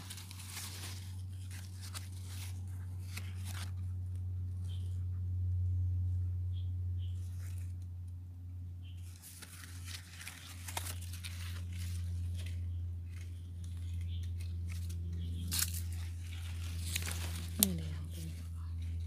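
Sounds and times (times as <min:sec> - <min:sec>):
leaves rustling and crackling: 0:00.0 - 0:05.0, 0:07.0 - 0:07.9, 0:08.9 - 0:19.0
steady low hum: 0:00.0 - 0:19.0.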